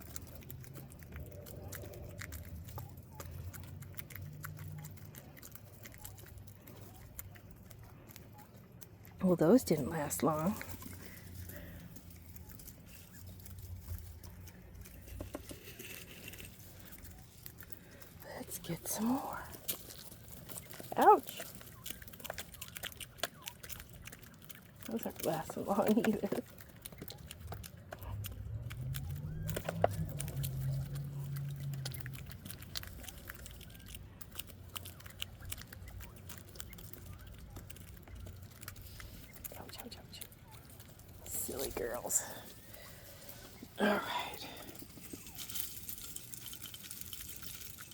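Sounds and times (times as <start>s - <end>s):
low steady hum: 0.0s - 47.9s
quail pecking and scratching: 0.0s - 47.9s.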